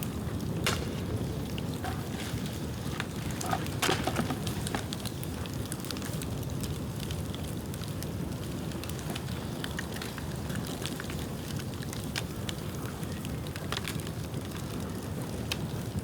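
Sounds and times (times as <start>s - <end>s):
bamboo crackling and popping: 0.0s - 16.0s.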